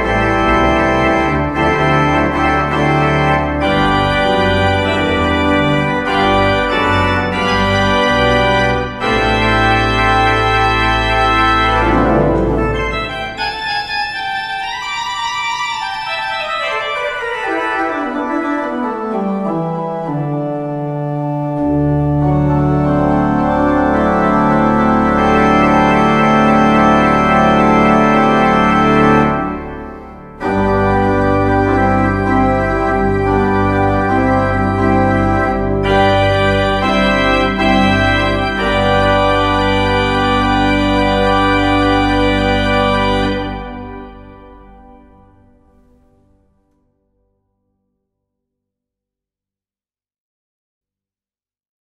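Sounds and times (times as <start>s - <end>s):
organ playing sustained chords: 0.0s - 46.6s.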